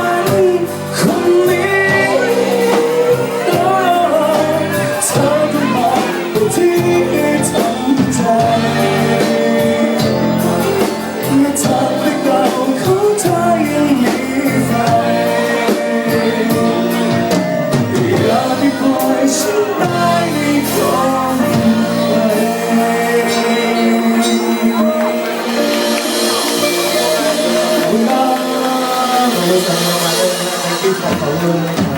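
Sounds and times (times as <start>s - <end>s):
pop song with singer and band: 0.0s - 31.9s.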